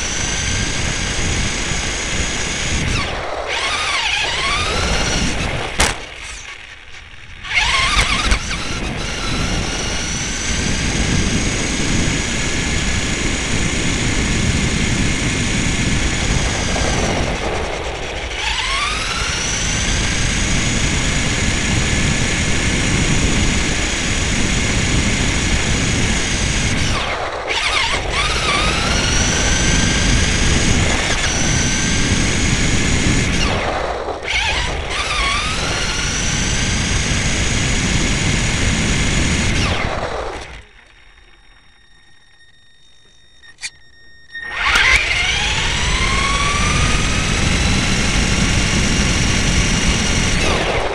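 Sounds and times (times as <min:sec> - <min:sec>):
wheels rumbling on asphalt: 0:00.0 - 0:42.2, 0:44.6 - 0:50.9
rc car motor whining: 0:00.0 - 0:50.9.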